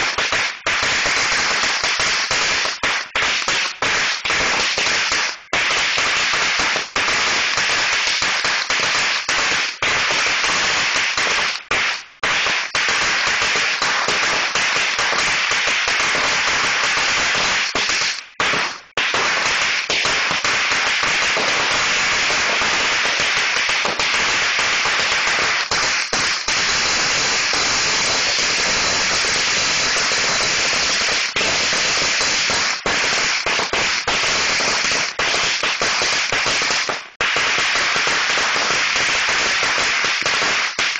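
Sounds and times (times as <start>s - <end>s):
firecrackers crackling bangs: 0.0s - 40.9s.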